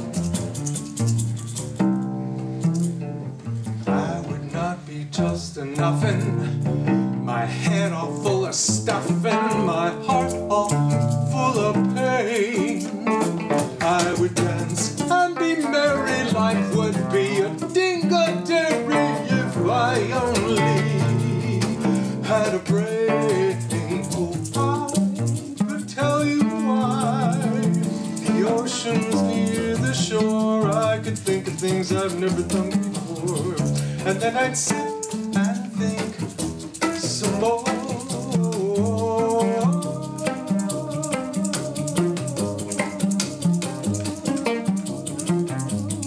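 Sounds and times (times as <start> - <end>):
plucked cello strings: 0.0 - 46.0.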